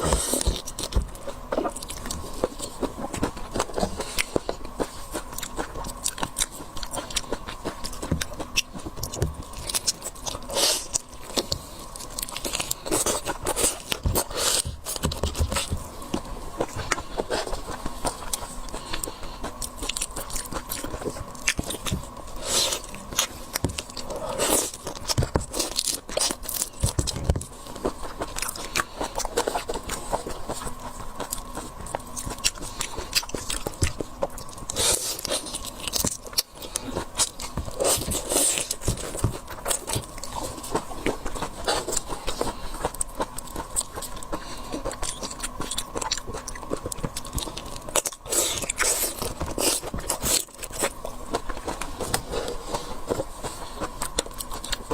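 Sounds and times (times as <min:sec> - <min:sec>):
biting and chewing with crunches: 0:00.0 - 0:54.9.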